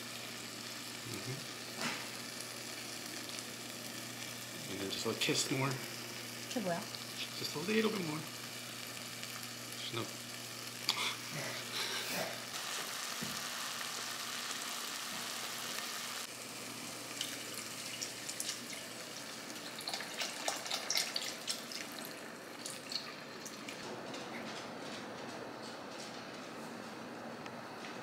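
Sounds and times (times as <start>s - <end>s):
onions sizzling in a pot: 0.0s - 23.4s.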